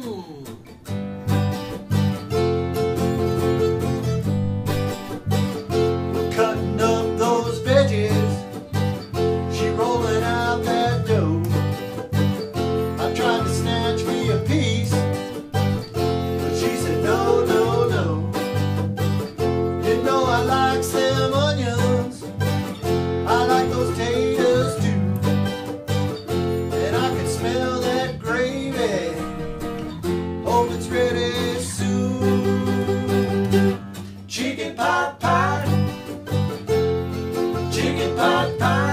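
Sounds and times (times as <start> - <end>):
strummed acoustic guitar: 0.0 - 38.9
sliding melody line: 1.2 - 38.9.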